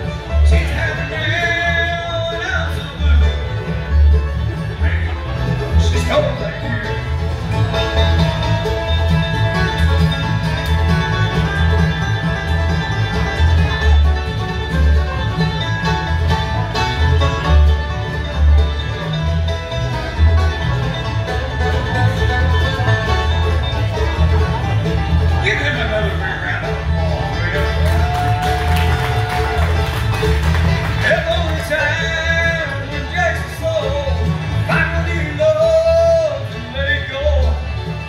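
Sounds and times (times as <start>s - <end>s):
acoustic guitar: 0.0s - 38.0s
fiddle: 0.0s - 38.0s
upright bass plucking: 0.0s - 38.0s.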